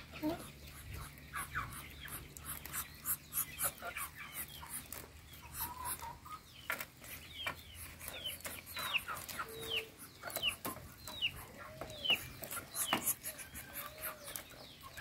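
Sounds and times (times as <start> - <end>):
chickens peeping: 0.0 - 15.0.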